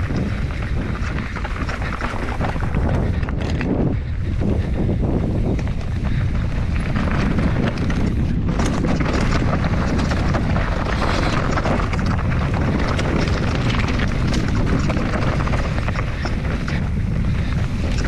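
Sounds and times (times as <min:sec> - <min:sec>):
bike knocking and rattling: 0:00.0 - 0:18.0
tyres rumbling over rough ground: 0:00.0 - 0:18.0
wind on microphone: 0:00.0 - 0:18.0.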